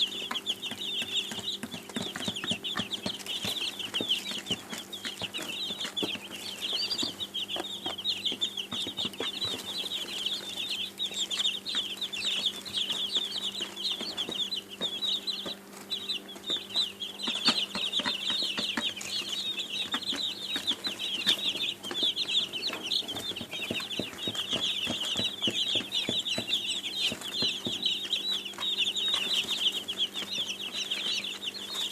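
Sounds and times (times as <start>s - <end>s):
chicks peeping: 0.0s - 31.9s.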